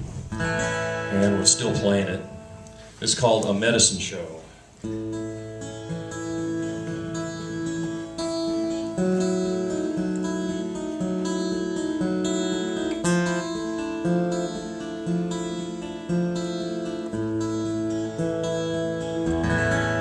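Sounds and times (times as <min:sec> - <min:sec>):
acoustic guitar picked instrumental: 0:00.0 - 0:20.0.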